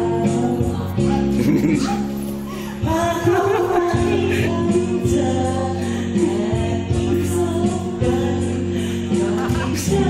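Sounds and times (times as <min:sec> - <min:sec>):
instrumental backing music: 0:00.0 - 0:10.0.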